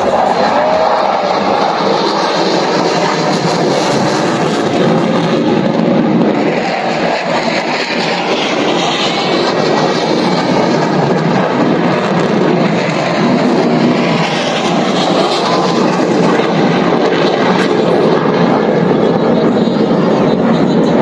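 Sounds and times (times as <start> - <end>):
fighter jet roaring overhead: 0.0 - 21.0.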